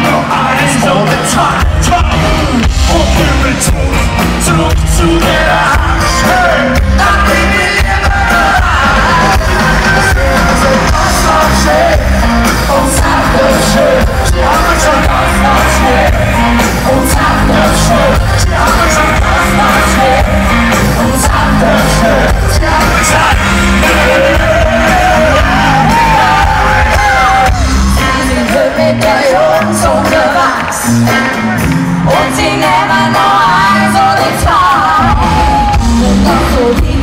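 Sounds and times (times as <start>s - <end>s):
live rock band: 0.0s - 37.0s
loud male vocals: 0.0s - 37.0s.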